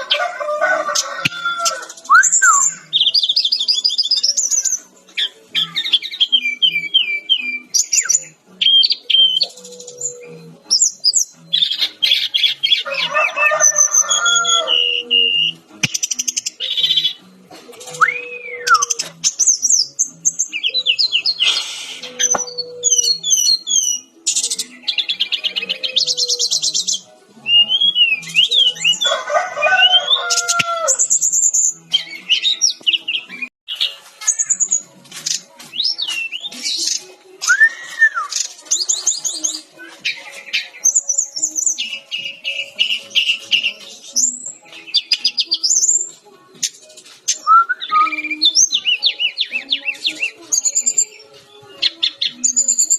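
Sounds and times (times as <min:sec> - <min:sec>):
bird song with whistles and trills: 0:00.9 - 0:52.9.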